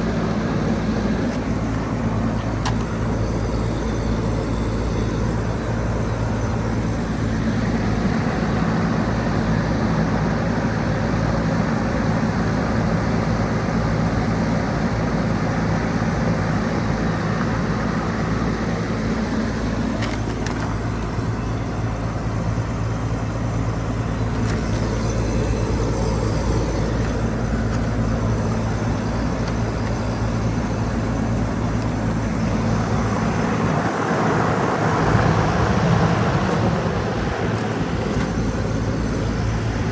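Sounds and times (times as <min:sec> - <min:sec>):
compressor hum: 0:00.0 - 0:39.9.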